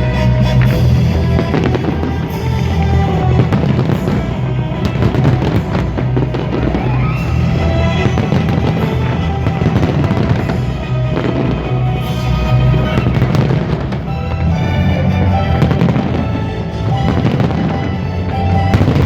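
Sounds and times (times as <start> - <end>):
fireworks bangs and crackles: 0.0 - 19.0
loud music with strong bass: 0.0 - 19.0.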